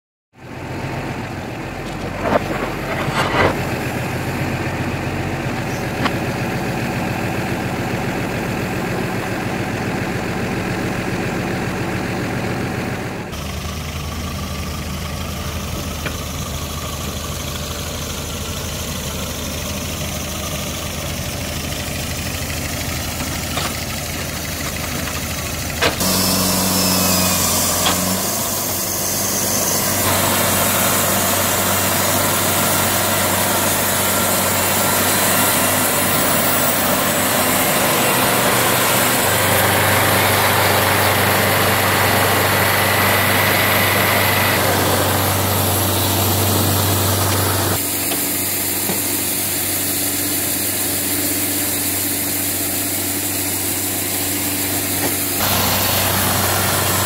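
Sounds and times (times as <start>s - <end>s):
bandsaw sawmill engine: 0.4s - 57.0s
tractor engine running: 0.4s - 57.0s.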